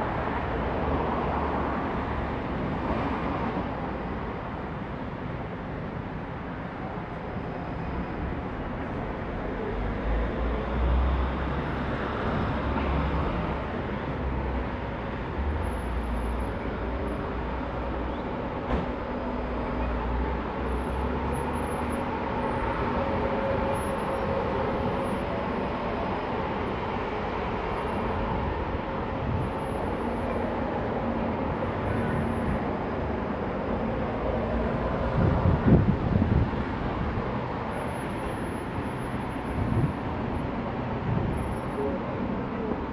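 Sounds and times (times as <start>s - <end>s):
steady traffic noise: 0.0s - 42.9s.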